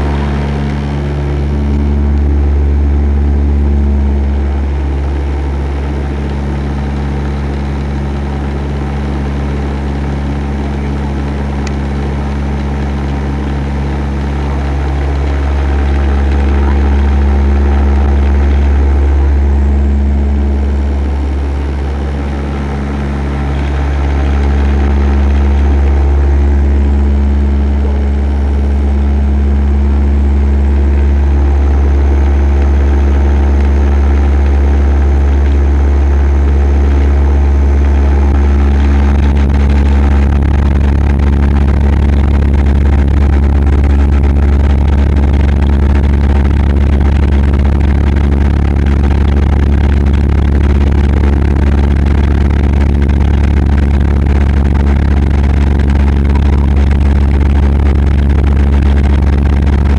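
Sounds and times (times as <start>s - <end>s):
aircraft cabin engine drone: 0.0s - 59.9s.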